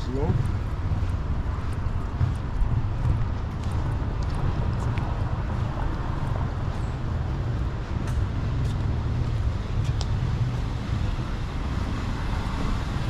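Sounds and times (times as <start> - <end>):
rumble of passing cars: 0.0 - 13.0.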